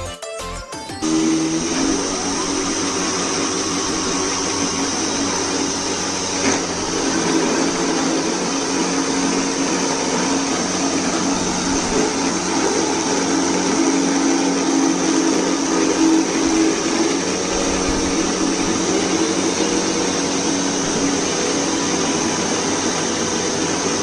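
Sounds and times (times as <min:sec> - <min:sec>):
motor spindle whine: 0:01.0 - 0:24.0.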